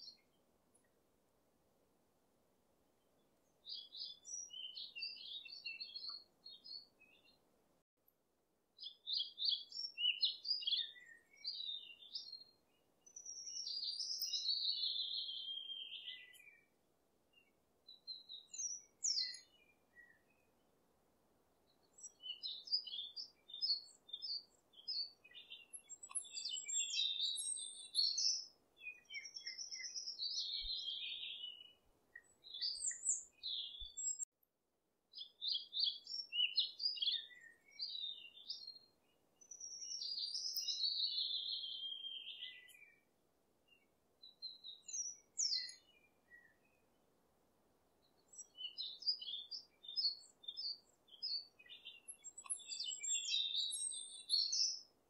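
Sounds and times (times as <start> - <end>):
songbirds chirping and trilling: 3.0 - 7.5, 8.8 - 34.3, 35.1 - 55.0.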